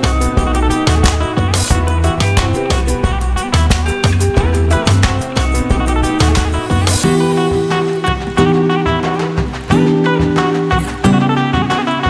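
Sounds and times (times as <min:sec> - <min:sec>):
background music with guitar: 0:00.0 - 0:12.0.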